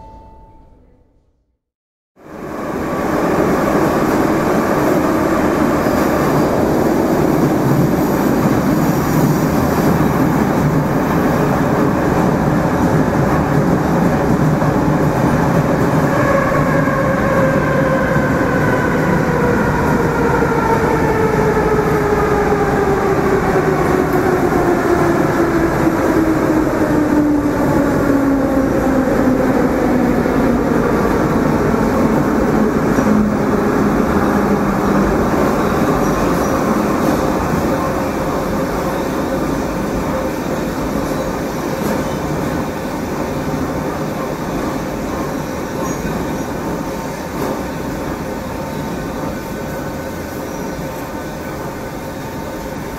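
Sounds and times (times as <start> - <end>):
metro train rumbling in tunnel: 2.2 - 52.9.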